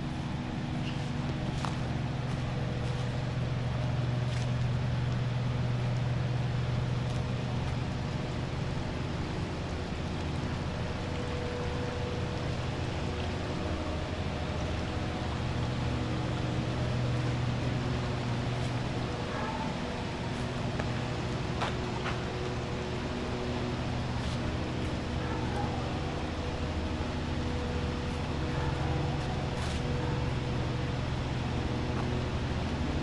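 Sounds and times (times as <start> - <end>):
distant traffic rumble: 0.0 - 33.0
stream running: 0.0 - 33.0.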